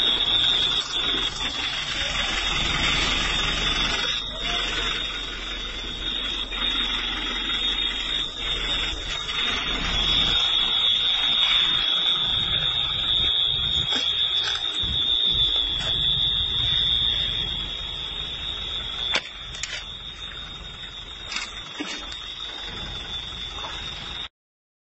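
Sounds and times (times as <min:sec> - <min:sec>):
high-pitched alarm tone: 0:00.0 - 0:24.3
low background rumble: 0:00.0 - 0:24.3.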